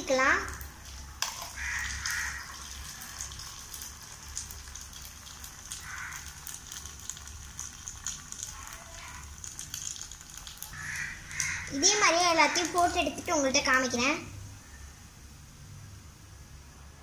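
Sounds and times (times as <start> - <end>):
deep-frying sizzle with crackling pops: 0.1 - 14.0.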